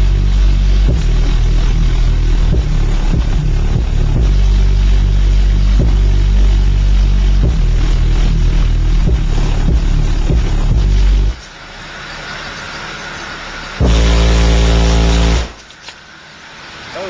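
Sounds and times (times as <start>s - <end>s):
distorted bass-heavy hip-hop: 0.0s - 17.0s.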